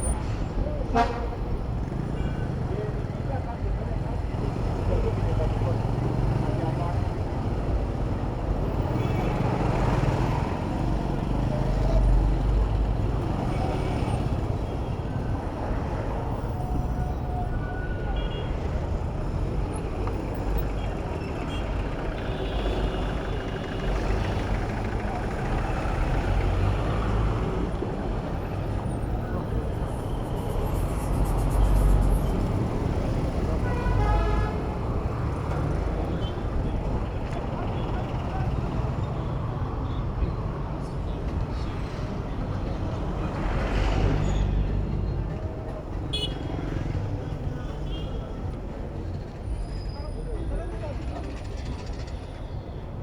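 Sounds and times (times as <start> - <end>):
city road traffic rumble: 0.0 - 53.0.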